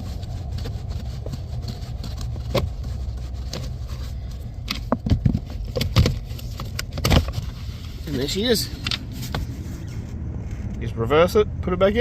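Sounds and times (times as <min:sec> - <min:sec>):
vehicle engine idling hum: 0:00.0 - 0:12.0.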